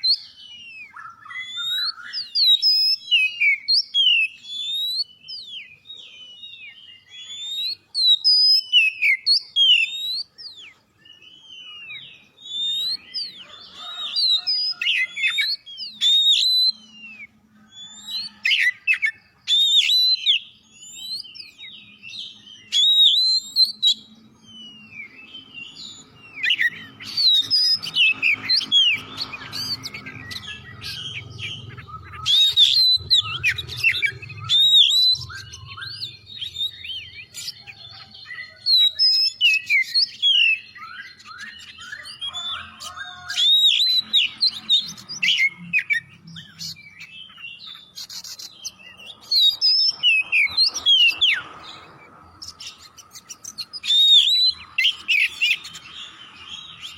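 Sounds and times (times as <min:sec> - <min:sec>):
bird singing whistles and chatter: 0:00.0 - 0:56.9.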